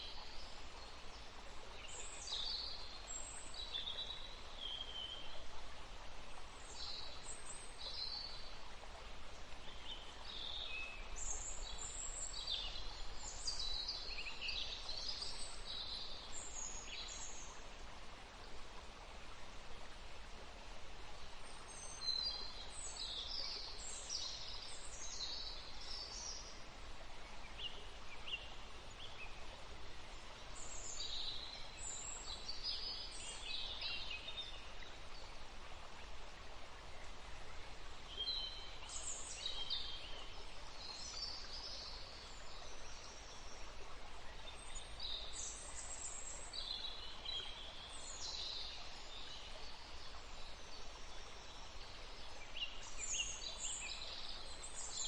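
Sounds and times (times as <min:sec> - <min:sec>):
songbirds chirping: 0:00.0 - 0:55.0
steady background hiss: 0:00.0 - 0:55.0.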